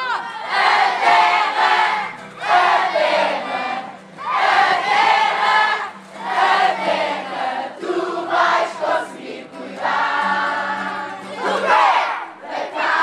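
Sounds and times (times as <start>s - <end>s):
crowd singing a hymn: 0.0s - 13.0s
guitar playing: 0.0s - 13.0s.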